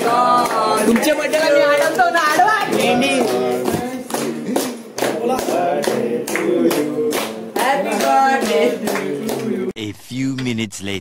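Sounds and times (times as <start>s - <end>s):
people clapping in rhythm: 0.0s - 9.7s
people singing along: 0.0s - 9.7s.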